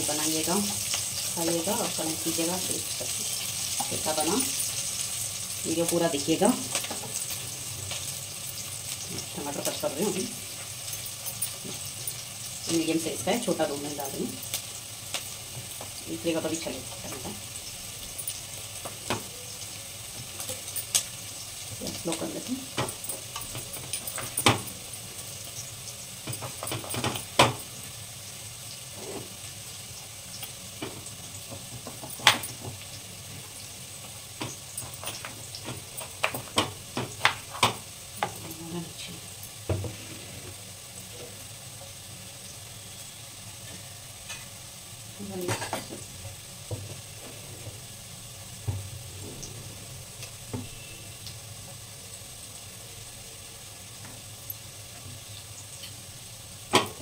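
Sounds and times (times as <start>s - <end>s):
onions sizzling: 0.0s - 57.0s.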